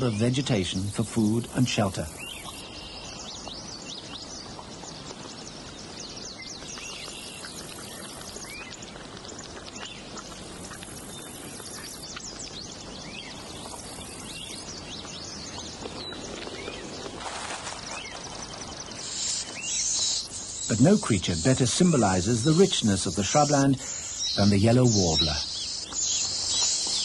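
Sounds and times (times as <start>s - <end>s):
steady background hiss: 0.0s - 9.2s, 10.0s - 27.0s.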